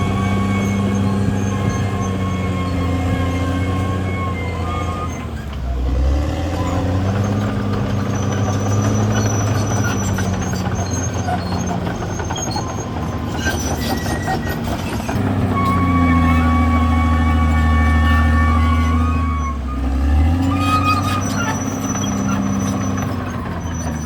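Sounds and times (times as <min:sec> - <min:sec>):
faint high squeaks: 0:00.0 - 0:05.8, 0:06.5 - 0:24.0
bulldozer diesel engine running: 0:00.0 - 0:24.0
bulldozer tracks and earthmoving: 0:00.0 - 0:24.0.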